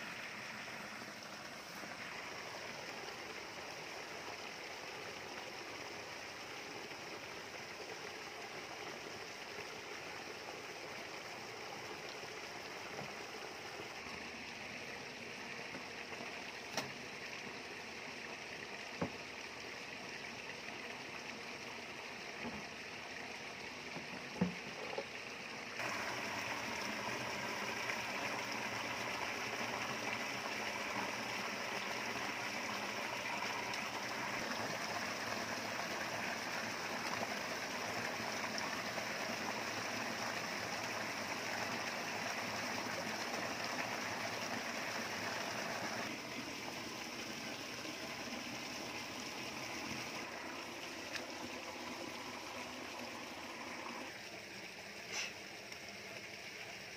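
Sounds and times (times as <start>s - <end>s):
petrol water pump running: 0.0s - 56.9s
rushing water: 0.0s - 56.9s.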